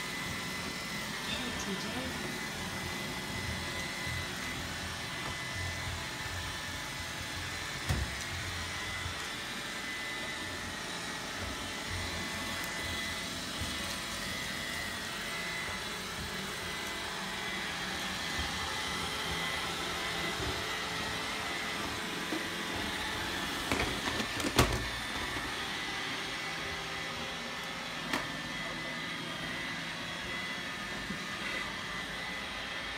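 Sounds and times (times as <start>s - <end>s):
robot vacuum running: 0.0s - 32.9s.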